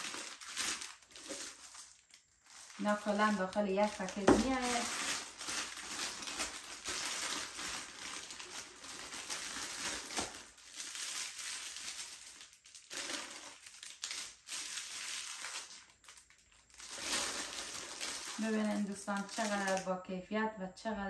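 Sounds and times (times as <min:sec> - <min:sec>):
plastic packaging crinkling: 0:00.0 - 0:19.9.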